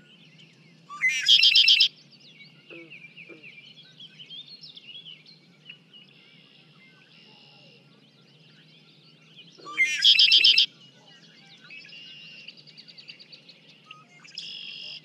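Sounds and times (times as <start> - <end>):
faint bird chirps: 0.0 - 1.9, 2.5 - 15.0
blackbird song with trill: 0.0 - 15.0.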